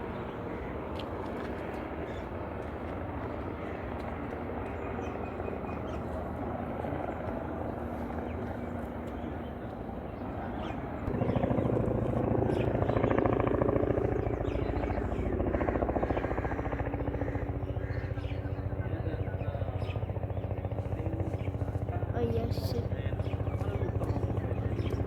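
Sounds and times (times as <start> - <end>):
helicopter rotor and turbine: 0.0 - 25.0.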